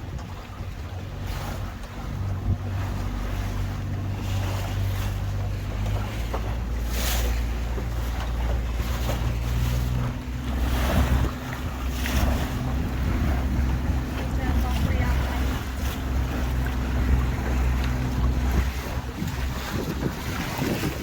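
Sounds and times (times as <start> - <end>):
boat engine humming: 0.0 - 21.0
water washing around hull: 0.0 - 21.0
wind on microphone: 0.0 - 21.0.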